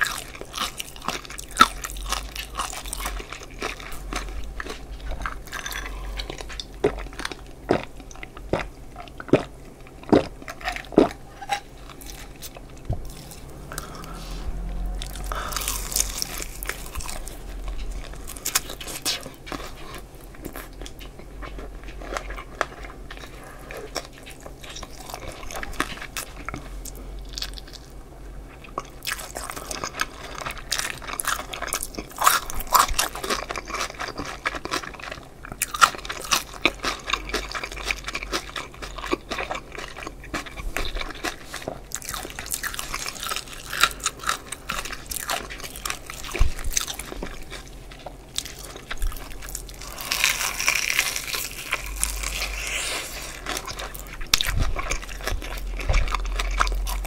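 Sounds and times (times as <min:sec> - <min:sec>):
crunching fried chicken: 0:00.0 - 0:57.0.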